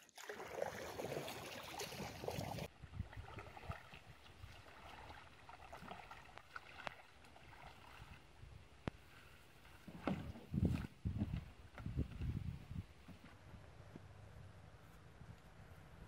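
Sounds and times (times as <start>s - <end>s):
paddles splashing in water: 0.0s - 13.2s.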